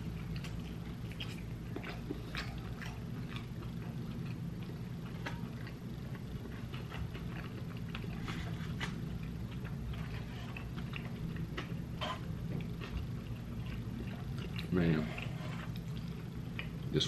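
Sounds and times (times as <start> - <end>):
chewing with wet mouth clicks: 0.0 - 17.0
low steady hum: 0.0 - 17.0.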